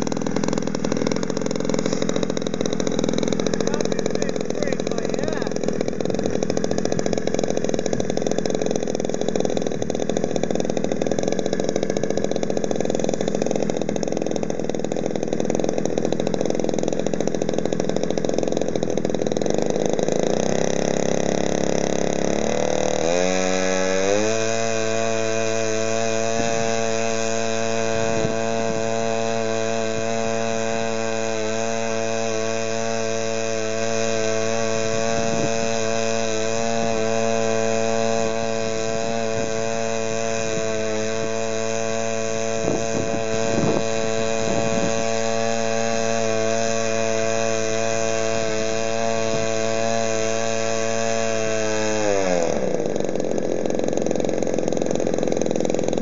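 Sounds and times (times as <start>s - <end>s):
model airplane engine running: 0.0s - 56.0s.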